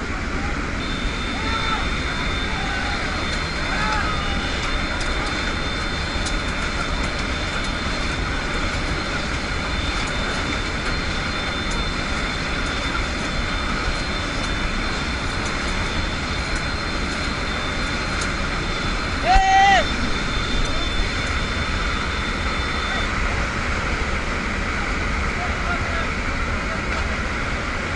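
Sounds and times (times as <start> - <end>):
aircraft engine drone: 0.0 - 27.9
rushing air: 0.0 - 27.9
thin high whine: 0.0 - 27.9.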